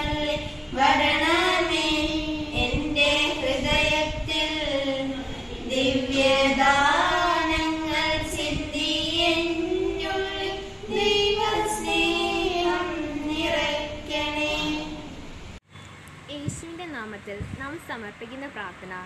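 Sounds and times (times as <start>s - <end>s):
girls singing together: 0.0s - 15.6s.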